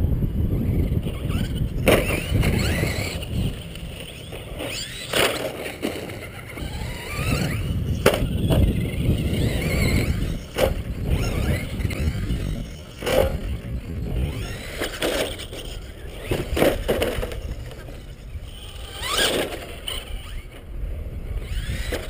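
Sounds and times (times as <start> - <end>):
wind rumble on microphone: 0.0 - 22.0
toy truck motors whining: 0.3 - 22.0.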